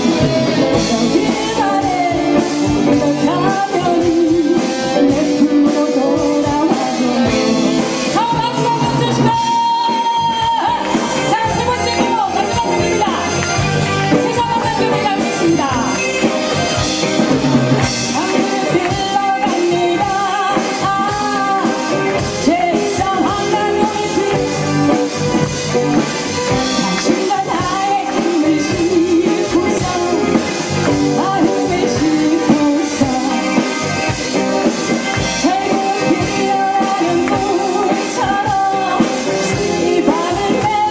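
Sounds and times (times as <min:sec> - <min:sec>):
woman singing into a microphone: 0:00.0 - 0:13.5, 0:14.1 - 0:16.1, 0:17.9 - 0:25.6, 0:26.5 - 0:40.9
drum kit: 0:00.0 - 0:40.9
electric guitars: 0:00.0 - 0:40.9.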